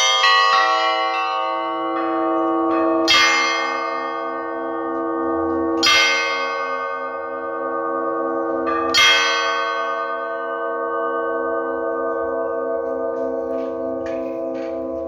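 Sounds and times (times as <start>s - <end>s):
heavy church bell ringing: 0.0s - 15.0s.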